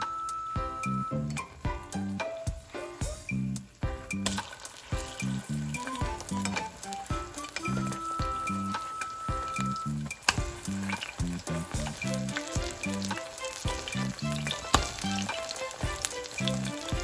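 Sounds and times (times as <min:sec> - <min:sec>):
background music with a beat: 0:00.0 - 0:17.0
fritters sizzling and popping in oil: 0:00.0 - 0:17.0.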